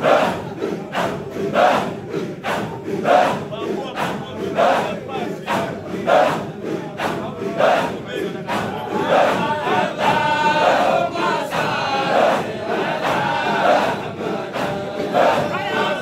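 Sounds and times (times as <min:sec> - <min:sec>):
crowd of men chanting: 0:00.0 - 0:16.0.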